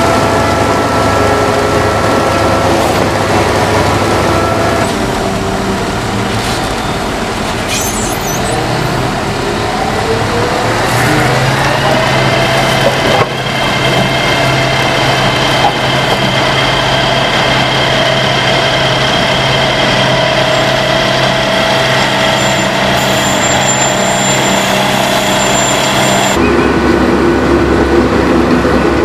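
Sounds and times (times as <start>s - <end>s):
drilling rig engine whining: 0.0s - 29.0s.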